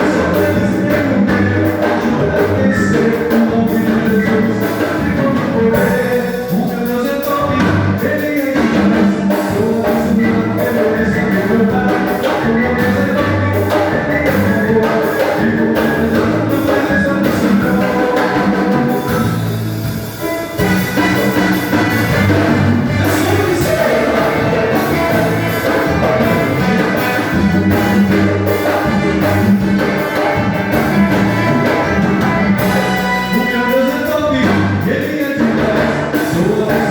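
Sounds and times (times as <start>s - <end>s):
band playing a song: 0.0s - 36.9s
drum kit beat: 0.0s - 36.9s
person singing: 0.0s - 36.9s.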